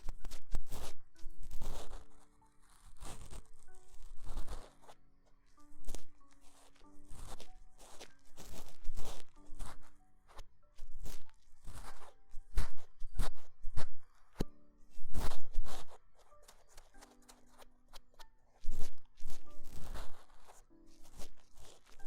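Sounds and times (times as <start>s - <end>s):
ear pick scraping microphone: 0.0s - 22.0s
soft background music: 0.0s - 22.0s.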